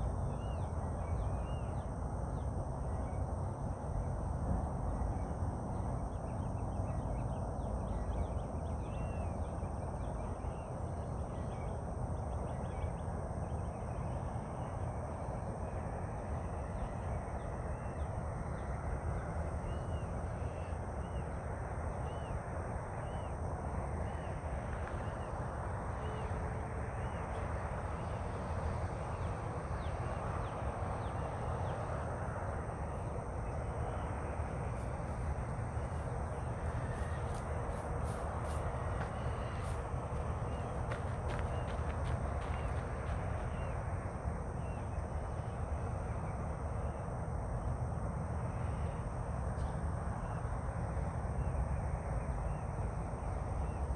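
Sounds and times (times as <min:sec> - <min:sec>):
outdoor rumble and hiss: 0:00.0 - 0:53.9.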